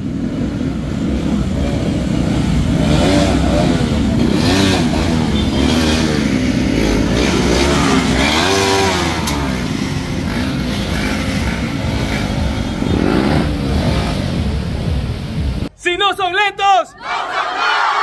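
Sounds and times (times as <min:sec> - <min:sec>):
motorcycle engines revving: 0:00.0 - 0:15.7.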